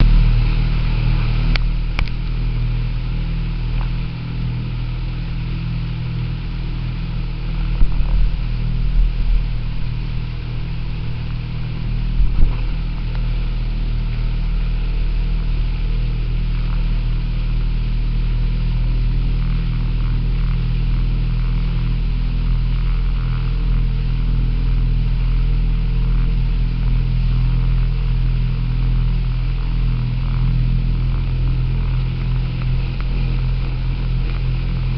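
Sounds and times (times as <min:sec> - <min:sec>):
motorboat engine humming: 0:00.0 - 0:34.9.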